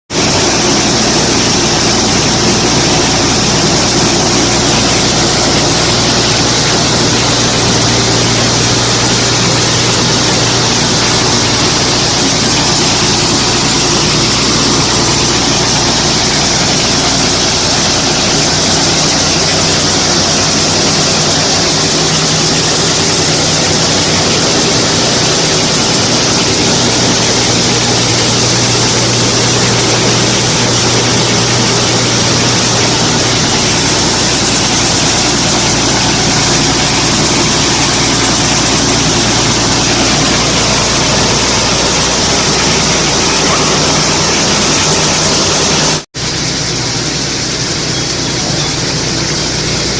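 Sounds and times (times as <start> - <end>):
heavy engine running: 0.0 - 49.9
loud even hiss: 0.1 - 49.9.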